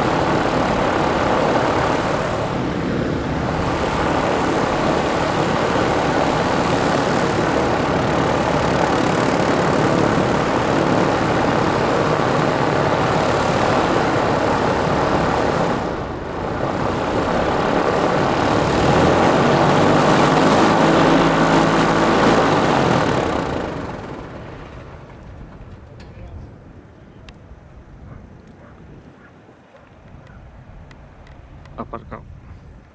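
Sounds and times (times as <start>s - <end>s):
light aircraft engine and propeller: 0.0s - 32.9s.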